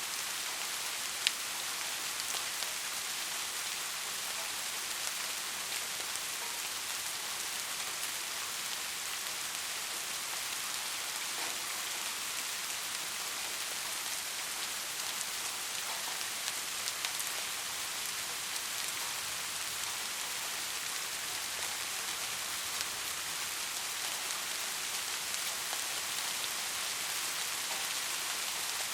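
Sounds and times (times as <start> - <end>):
steady rain hiss: 0.0 - 28.9.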